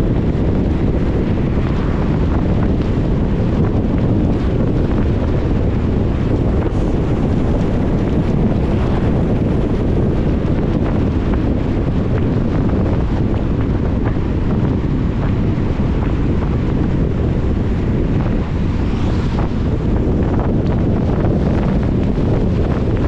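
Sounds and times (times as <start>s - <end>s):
car driving on wet road: 0.0s - 23.0s.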